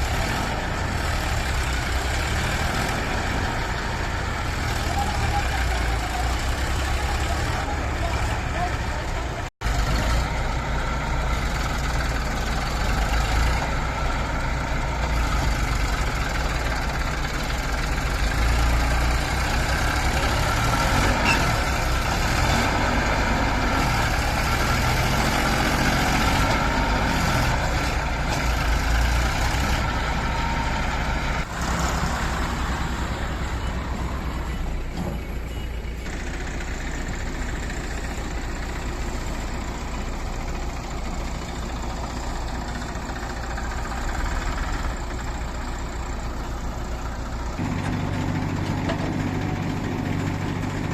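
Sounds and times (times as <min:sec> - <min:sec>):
heavy diesel machinery running: 0:00.0 - 0:50.9.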